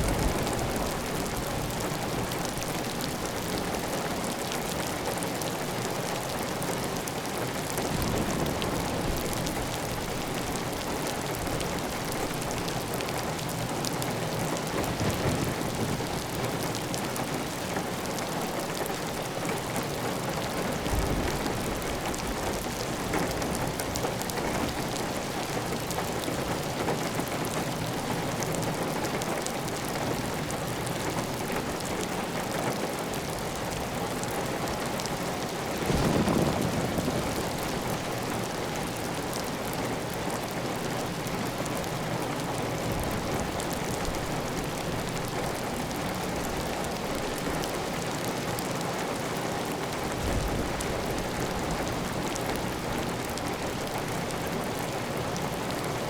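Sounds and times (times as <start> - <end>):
heavy rain on a tile roof: 0.0 - 56.0.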